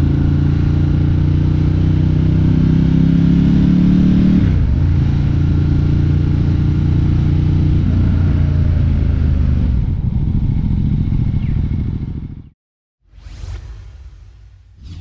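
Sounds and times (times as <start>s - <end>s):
motorcycle engine at low revs: 0.0s - 12.6s.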